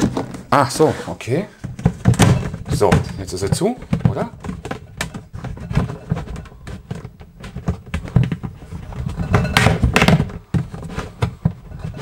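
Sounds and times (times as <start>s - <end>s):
plastic knocks and scraping: 0.0s - 12.0s.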